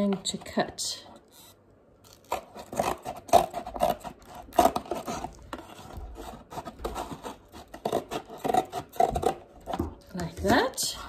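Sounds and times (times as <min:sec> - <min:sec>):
scissors cutting cardboard: 0:01.2 - 0:10.8.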